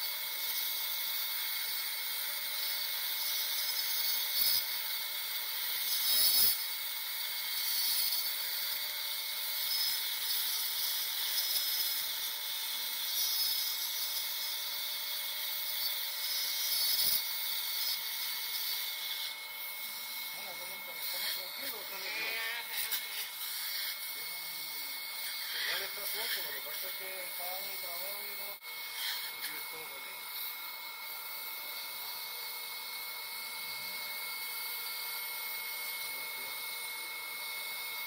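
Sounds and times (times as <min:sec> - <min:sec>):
dental equipment hissing and whining: 0:00.0 - 0:38.0
dental scraping: 0:00.3 - 0:32.8.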